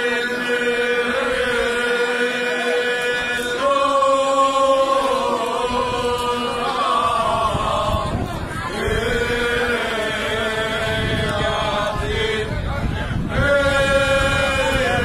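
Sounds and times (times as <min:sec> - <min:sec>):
men singing a cappella: 0:00.0 - 0:15.0.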